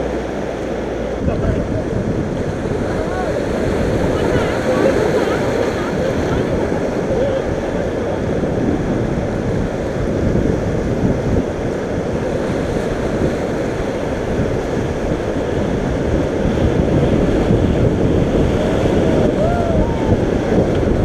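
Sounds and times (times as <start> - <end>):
rushing river rapids: 0.0 - 21.0
wind buffeting microphone: 0.0 - 21.0.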